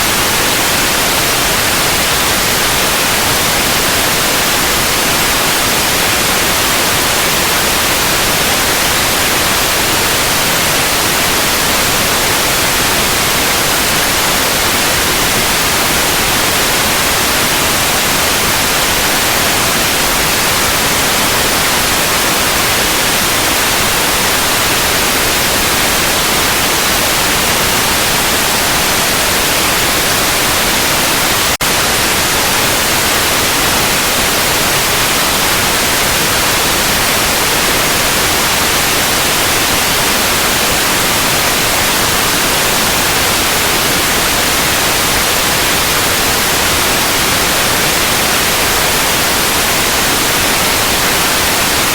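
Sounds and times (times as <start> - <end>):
electronic white noise hiss: 0.0 - 51.9.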